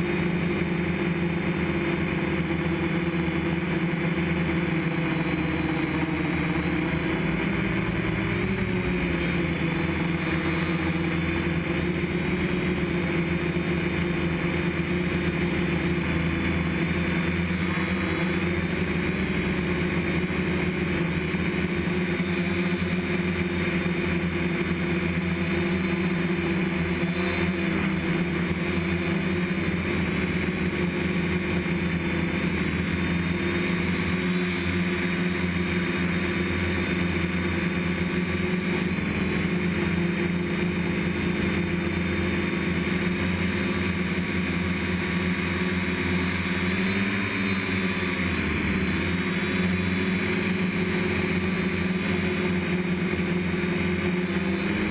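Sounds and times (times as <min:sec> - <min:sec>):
drone motors and propellers buzzing: 0:00.0 - 0:54.9.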